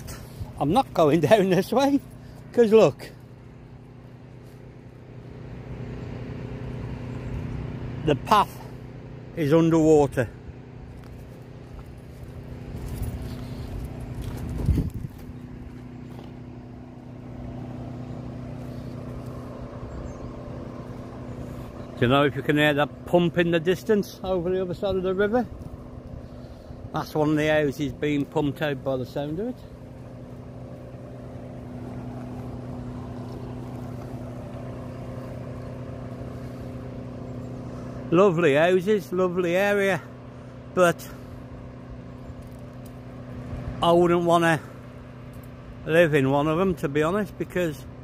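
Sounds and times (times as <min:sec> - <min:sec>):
distant pump humming: 0:00.0 - 0:48.0.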